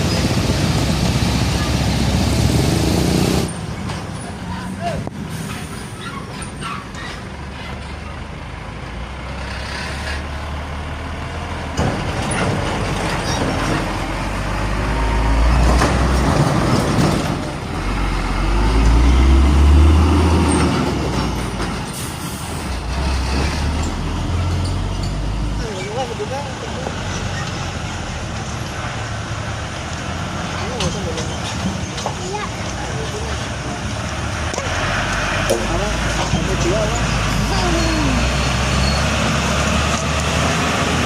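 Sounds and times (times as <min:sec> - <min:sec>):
diesel trucks passing: 0:00.0 - 0:41.0.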